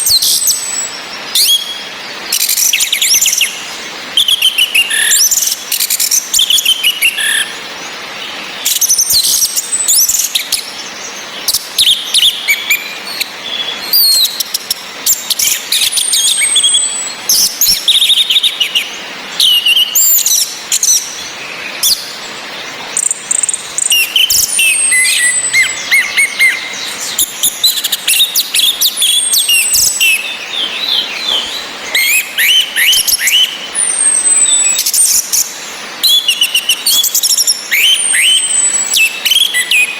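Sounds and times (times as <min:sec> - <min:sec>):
rain hissing: 0:00.0 - 0:39.9
thrushes singing and calling: 0:00.0 - 0:39.9.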